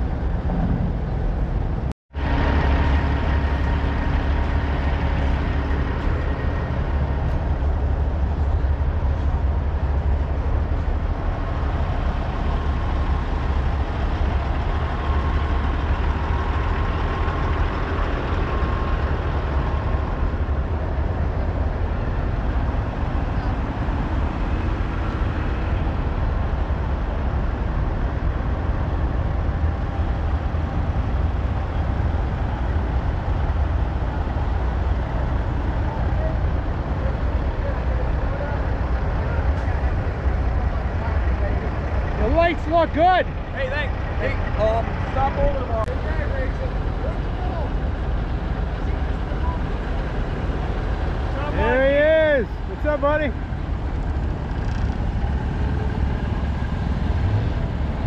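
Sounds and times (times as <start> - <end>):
diesel truck engines idling: 0.0 - 58.0.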